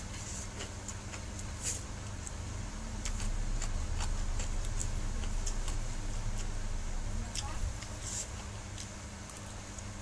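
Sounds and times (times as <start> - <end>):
person chewing noodles: 0.0 - 10.0.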